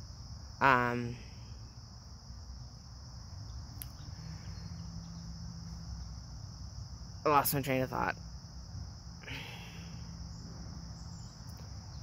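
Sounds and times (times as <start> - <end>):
crickets and insects chirping: 0.0 - 12.0
low outdoor rumble: 0.0 - 12.0.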